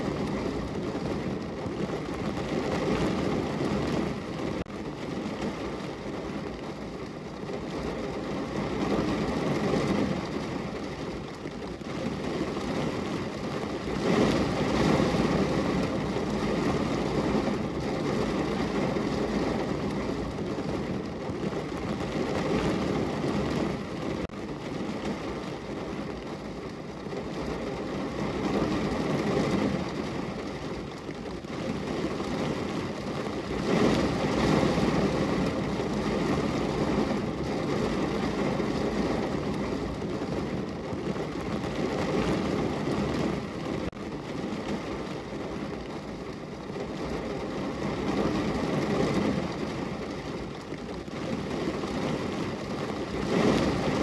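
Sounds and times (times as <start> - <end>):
rain on window glass: 0.0 - 54.0.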